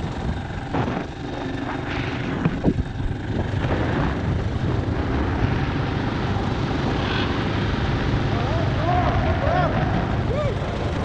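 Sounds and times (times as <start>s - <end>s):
motorcycle running at speed: 0.0s - 11.0s
wind buffeting microphone: 0.0s - 11.0s.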